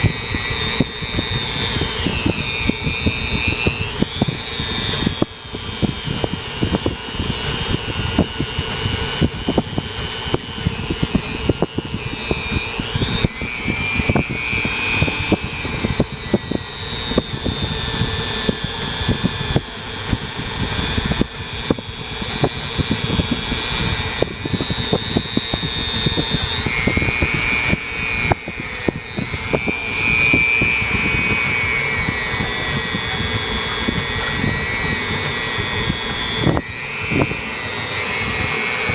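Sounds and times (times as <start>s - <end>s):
rotary tool motor whine: 0.0s - 38.9s.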